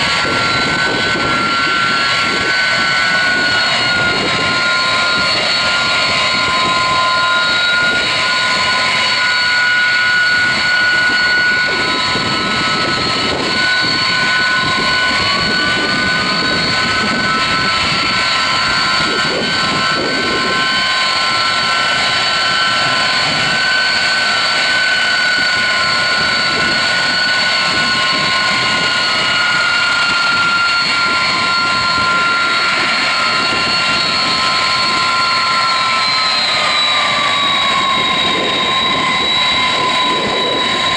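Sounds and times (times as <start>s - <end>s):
jet engines running with whine: 0.0s - 40.9s.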